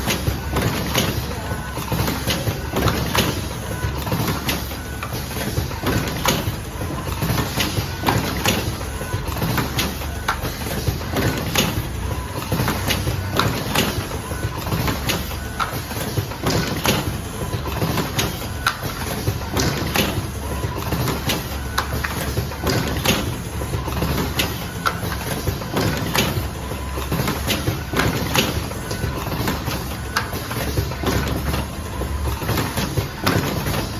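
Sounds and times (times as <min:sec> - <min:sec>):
machine clacks and knocks: 0:00.0 - 0:33.9.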